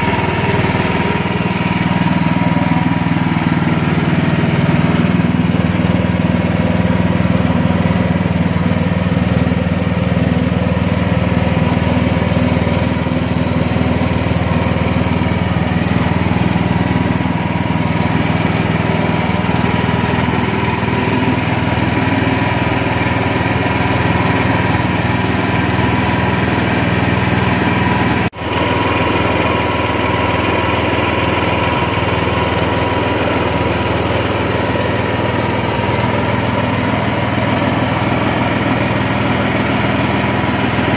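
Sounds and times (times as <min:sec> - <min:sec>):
small petrol engine running: 0:00.0 - 0:40.9.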